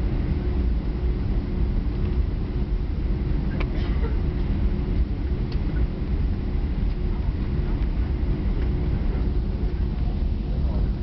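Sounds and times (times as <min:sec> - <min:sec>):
airplane engines idling: 0:00.0 - 0:11.0
cabin hum: 0:00.0 - 0:11.0.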